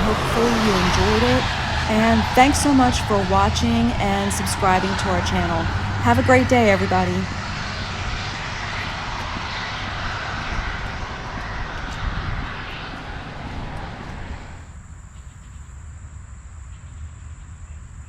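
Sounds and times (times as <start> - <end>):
traffic on wet road: 0.0 - 14.6
wind: 0.0 - 18.0.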